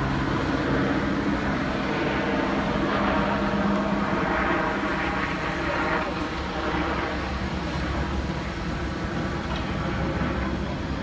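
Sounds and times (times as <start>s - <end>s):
continuous rushing noise: 0.0s - 11.0s
engine drone: 0.0s - 11.0s.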